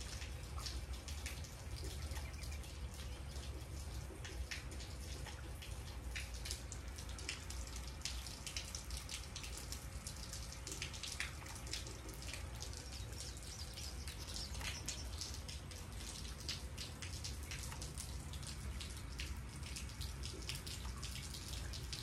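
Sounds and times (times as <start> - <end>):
rain dripping on concrete: 0.0 - 22.0.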